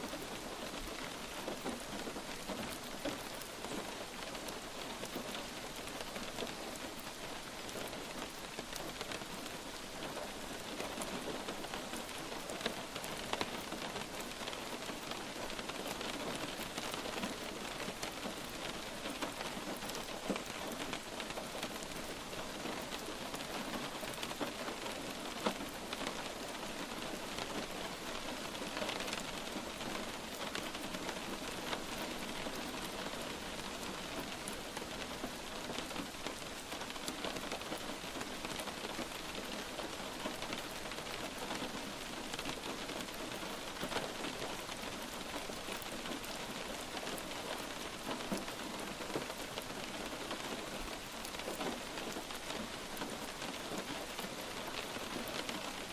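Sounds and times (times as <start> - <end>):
light rain hissing: 0.0 - 55.9
raindrop ticks: 0.0 - 55.9.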